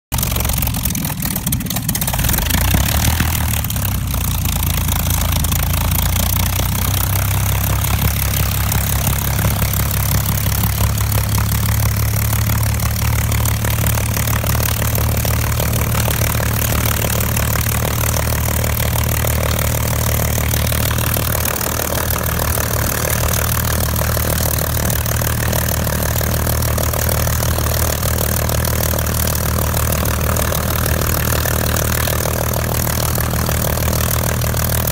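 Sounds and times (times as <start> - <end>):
aircraft engine starting and idling: 0.0 - 34.9.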